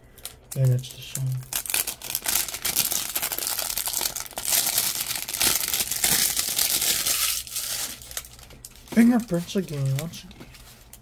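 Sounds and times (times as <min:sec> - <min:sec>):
plastic wrap crinkling: 0:00.2 - 0:11.0.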